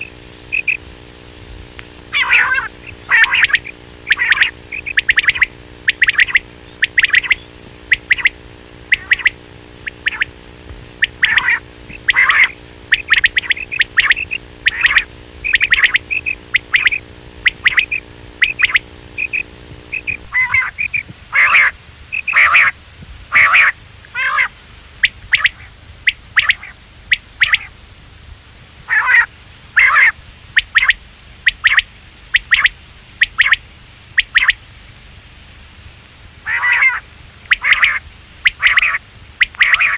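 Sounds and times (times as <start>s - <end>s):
quail calling: 0.0s - 27.8s, 28.9s - 33.6s, 34.2s - 34.6s, 36.4s - 39.9s
low steady hum: 0.0s - 39.9s.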